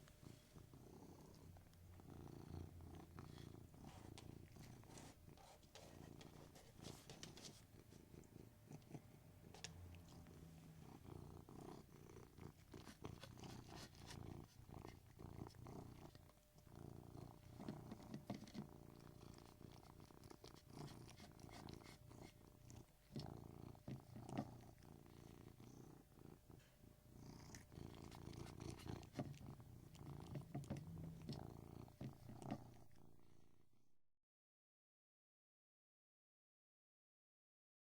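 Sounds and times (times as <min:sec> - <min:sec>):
cat purring: 0:00.0 - 0:33.8.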